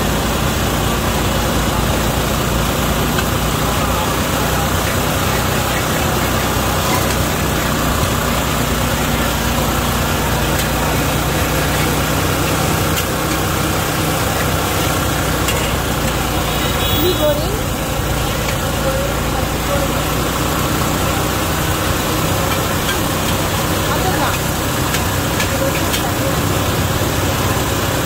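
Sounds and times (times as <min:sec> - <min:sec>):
gas burner rush: 0:00.0 - 0:28.0
noodles sizzling in wok: 0:00.0 - 0:28.0.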